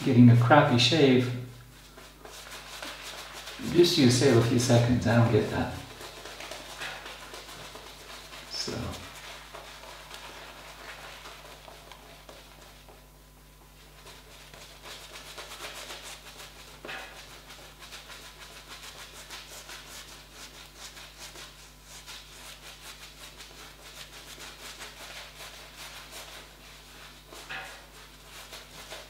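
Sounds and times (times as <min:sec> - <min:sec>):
shaving brush wet rubbing: 0:00.0 - 0:29.0.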